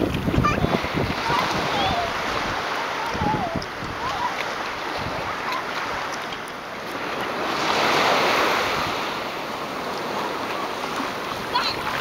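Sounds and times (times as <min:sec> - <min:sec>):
ocean surf on a beach: 0:00.0 - 0:12.0
wave breaking: 0:00.0 - 0:12.0
wind buffeting microphone: 0:00.0 - 0:12.0.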